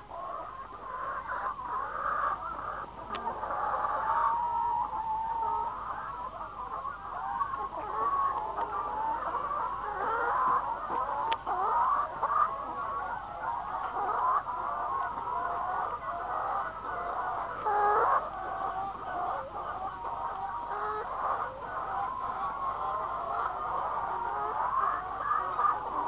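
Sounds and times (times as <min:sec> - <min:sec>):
hens clucking: 0:00.0 - 0:26.0.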